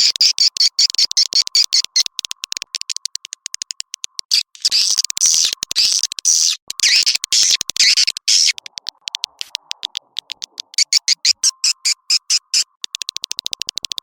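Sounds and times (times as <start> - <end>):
buzzy bird twittering: 0.0 - 2.3, 4.3 - 14.0
fast short clicks: 0.0 - 14.0.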